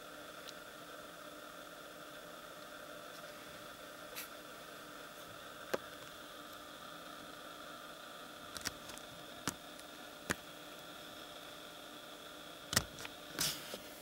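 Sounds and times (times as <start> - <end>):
faint hiss and hum: 0.0 - 14.0.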